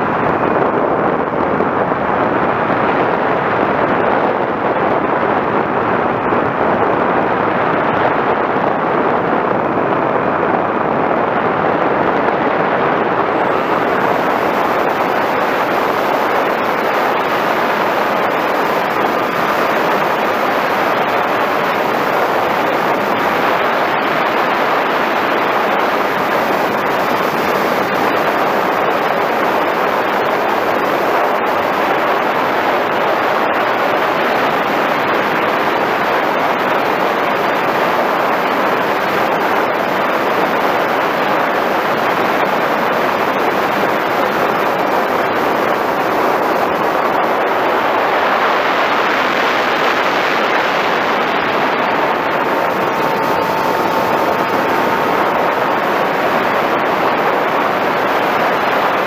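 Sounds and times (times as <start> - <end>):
rc plane flight rushing: 11.4 - 59.0.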